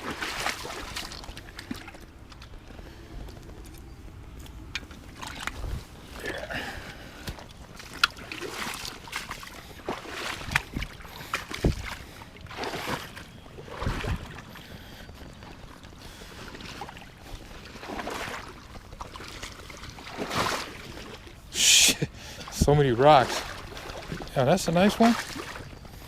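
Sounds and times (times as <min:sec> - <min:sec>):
river water splashing: 0:00.0 - 0:02.8, 0:04.4 - 0:26.0.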